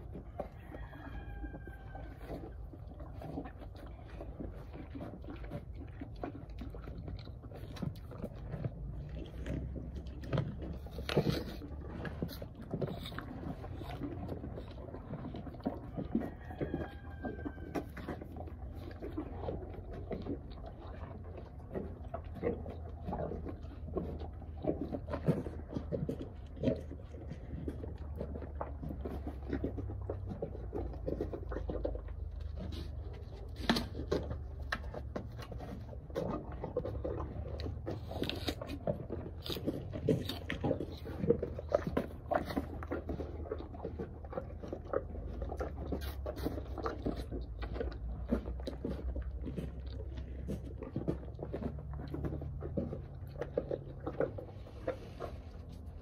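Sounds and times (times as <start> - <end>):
wet crunching of apples: 0.0 - 56.0.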